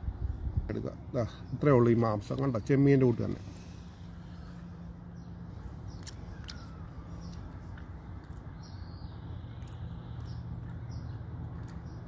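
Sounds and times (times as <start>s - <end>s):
low steady hum: 0.0s - 12.0s
small birds chirping faintly: 0.1s - 12.0s.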